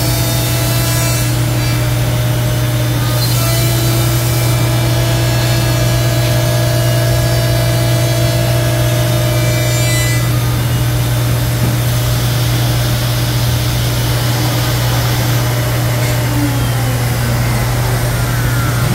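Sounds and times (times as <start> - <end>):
router cutting wood: 0.0 - 18.9.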